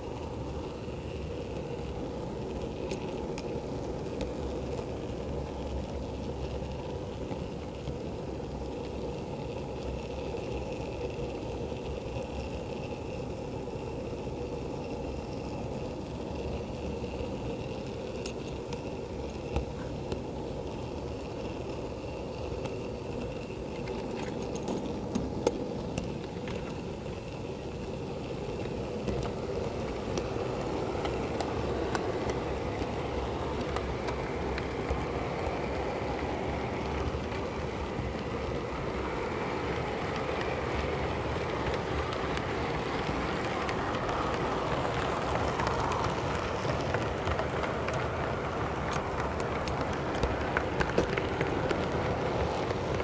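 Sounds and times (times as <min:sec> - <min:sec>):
clicks over rail joints: 0:00.0 - 0:53.0
model train wheels rattling on rails: 0:00.0 - 0:53.0
steady motor hum: 0:00.0 - 0:53.0.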